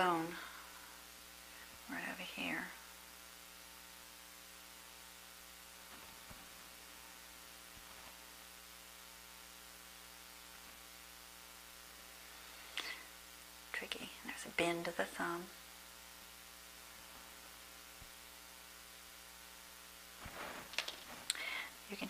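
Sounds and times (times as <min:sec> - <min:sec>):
electrical mains hum with hiss: 0:00.0 - 0:22.0.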